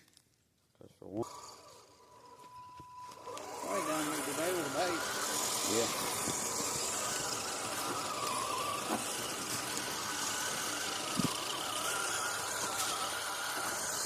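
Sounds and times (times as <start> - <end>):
electric motor and drivetrain whining: 1.2 - 14.0.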